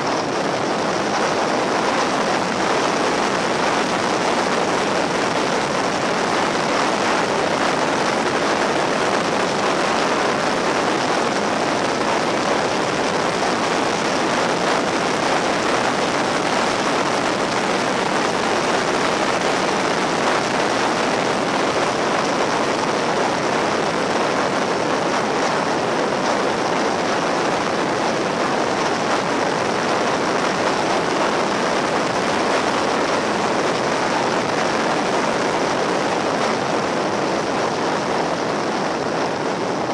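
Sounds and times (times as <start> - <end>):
wind rush and road noise: 0.0 - 39.9.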